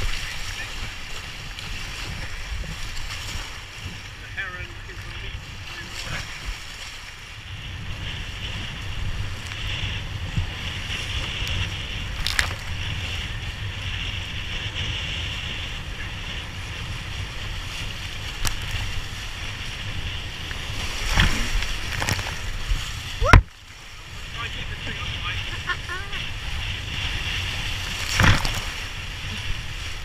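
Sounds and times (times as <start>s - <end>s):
low microphone rumble: 0.0s - 30.0s.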